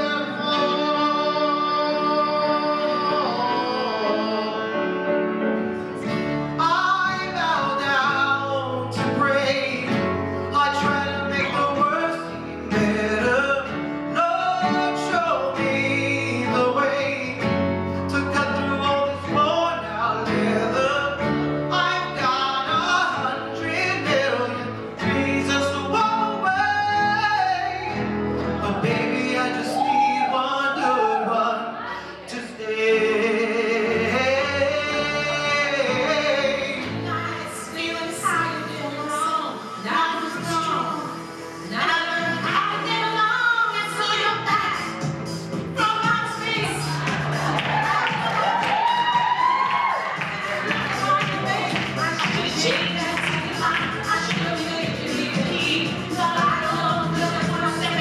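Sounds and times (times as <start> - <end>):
bass guitar: 0.0 - 30.3, 33.1 - 58.0
acoustic guitars: 0.0 - 58.0
man singing into a microphone: 0.0 - 58.0
piano: 0.0 - 58.0.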